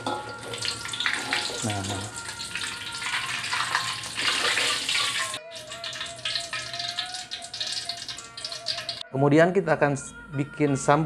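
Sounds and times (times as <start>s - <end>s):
hot oil sizzling in a wok: 0.0s - 9.0s.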